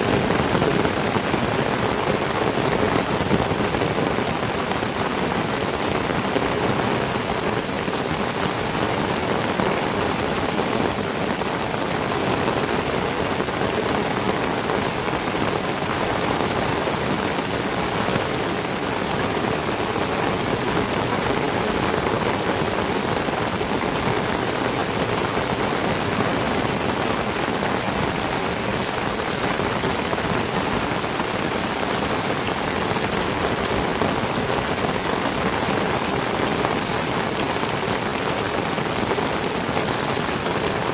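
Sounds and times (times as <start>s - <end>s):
heavy rain on foliage: 0.0s - 40.9s.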